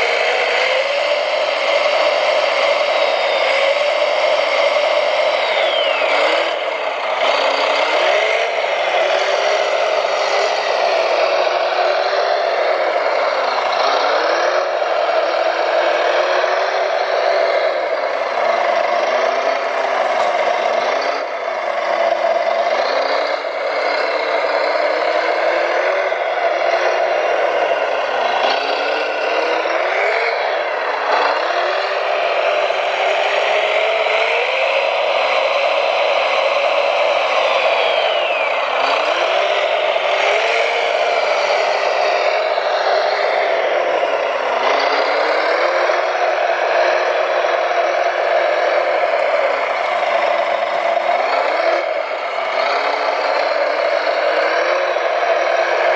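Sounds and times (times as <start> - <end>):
electric motor whining: 0.0 - 21.2, 21.8 - 55.9.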